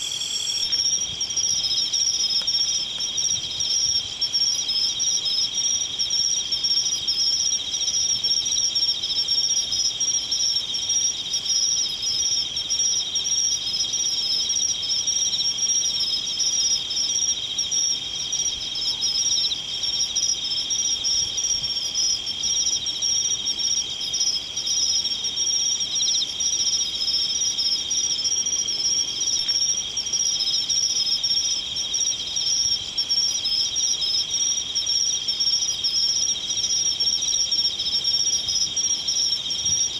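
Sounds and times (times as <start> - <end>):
insects trilling: 0.0 - 39.9
shrill fast pulsing insects: 0.0 - 39.9.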